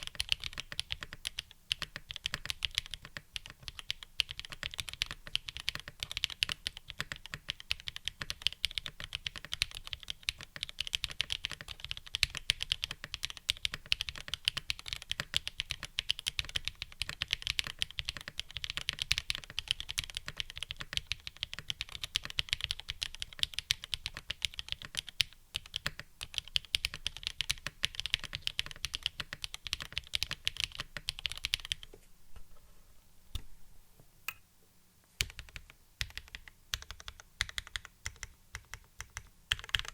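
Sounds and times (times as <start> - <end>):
fast mechanical keyboard typing: 0.0 - 31.8, 35.2 - 39.9.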